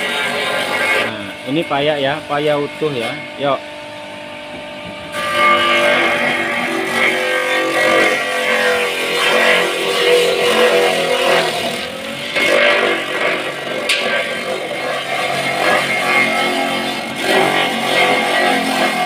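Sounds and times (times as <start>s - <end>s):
chopping machine motor: 0.0s - 19.0s.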